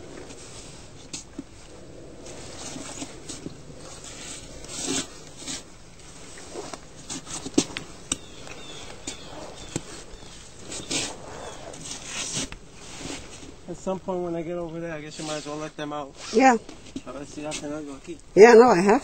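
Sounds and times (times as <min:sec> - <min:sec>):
crunches and scrapes in snow: 0:00.0 - 0:14.4, 0:15.1 - 0:16.7.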